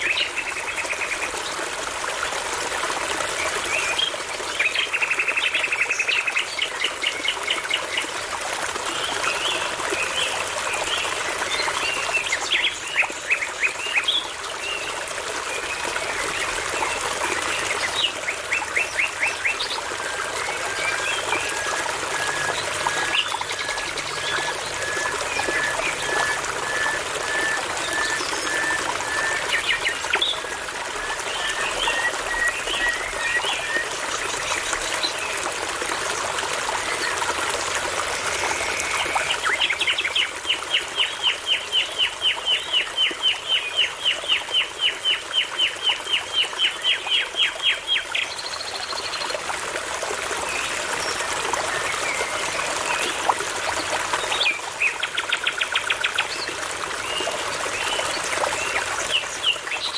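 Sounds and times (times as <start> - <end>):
babbling brook: 0.0 - 59.9.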